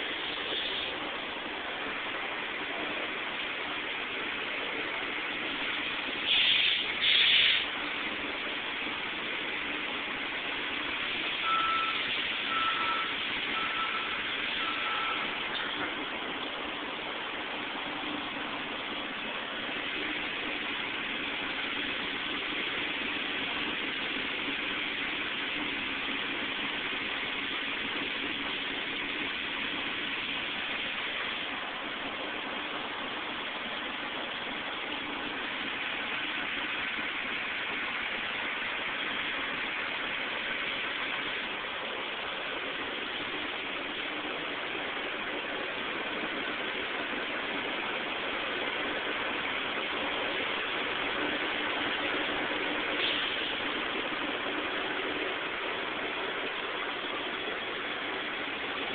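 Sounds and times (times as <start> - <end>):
street traffic noise: 0.0 - 58.9.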